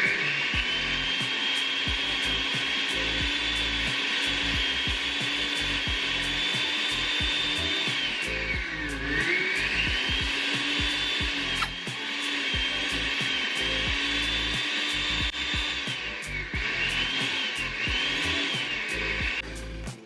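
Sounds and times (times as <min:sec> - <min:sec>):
blender motor whining: 0:00.0 - 0:20.0.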